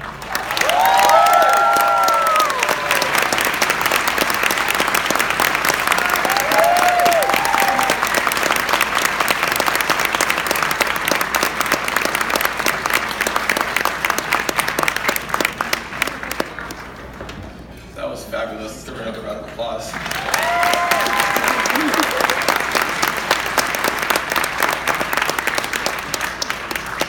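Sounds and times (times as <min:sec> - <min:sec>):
audience applauding: 0:00.0 - 0:17.2, 0:19.9 - 0:27.0.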